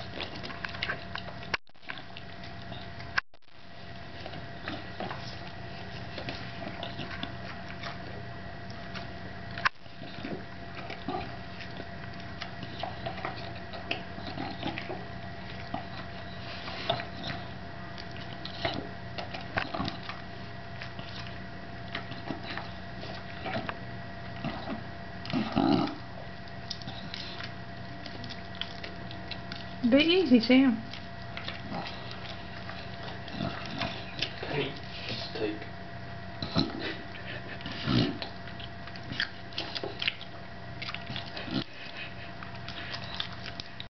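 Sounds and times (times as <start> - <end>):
dog chewing and licking: 0.0 - 43.9.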